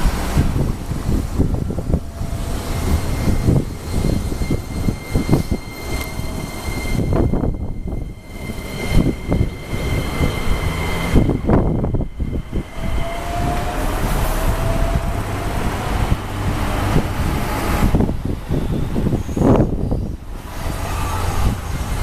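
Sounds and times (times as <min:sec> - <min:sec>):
electric train inverter whine: 0:00.0 - 0:22.0
train low rumble: 0:00.0 - 0:22.0.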